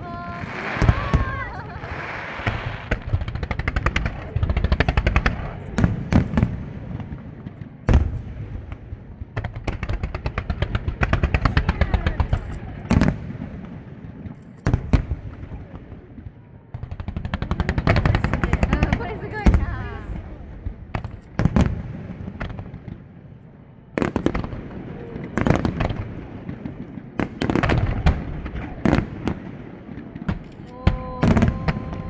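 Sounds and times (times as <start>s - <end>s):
fireworks crackling: 0.0s - 32.0s
fireworks heavy booms: 0.0s - 32.0s.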